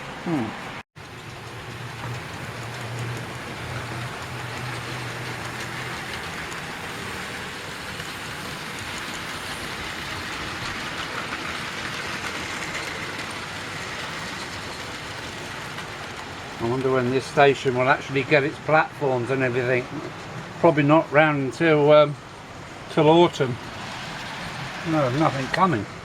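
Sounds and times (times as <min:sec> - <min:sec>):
model train whirring on track: 0:01.0 - 0:26.0.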